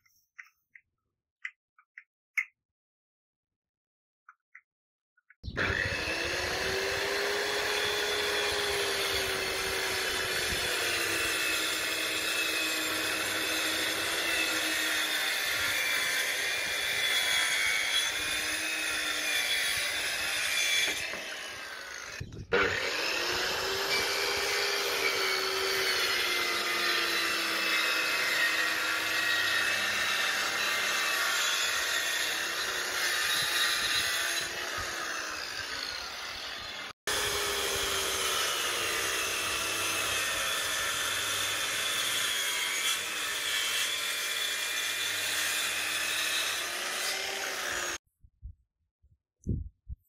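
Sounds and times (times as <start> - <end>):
circular saw cutting plywood: 5.4 - 48.0.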